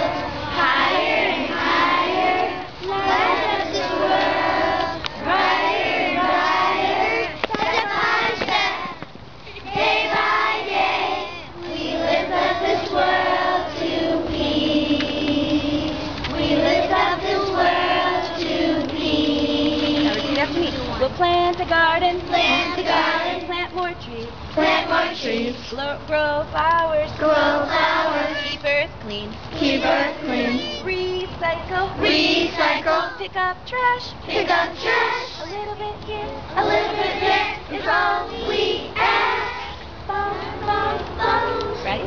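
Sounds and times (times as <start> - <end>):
children singing together: 0.0 - 9.0, 9.6 - 20.6, 22.2 - 23.9, 24.6 - 25.7, 27.2 - 28.8, 29.6 - 41.9.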